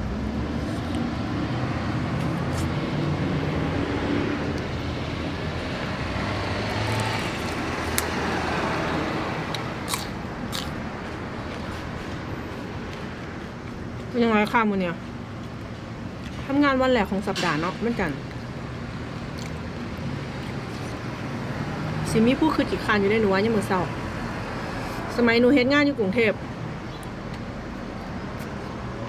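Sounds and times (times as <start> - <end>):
vehicle passing: 0.0 - 25.7
road traffic rumble: 0.0 - 29.0.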